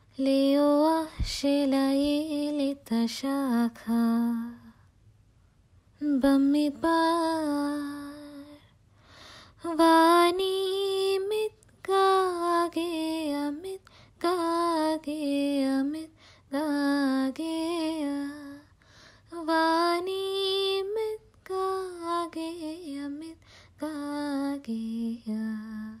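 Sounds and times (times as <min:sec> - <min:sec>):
woman singing unaccompanied: 0:00.0 - 0:04.8, 0:06.0 - 0:08.7, 0:09.6 - 0:18.7, 0:19.3 - 0:26.0.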